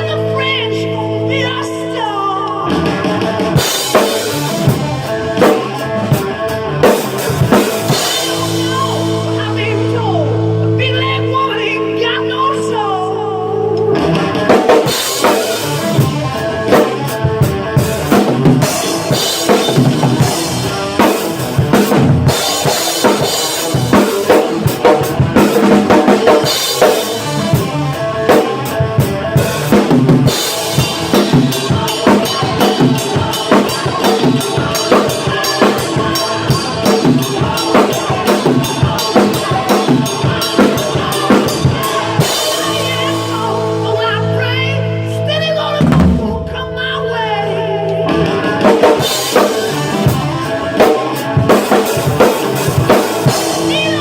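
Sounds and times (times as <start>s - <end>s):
musical backing: 0.0s - 54.0s
rock drum kit played hard: 0.0s - 54.0s.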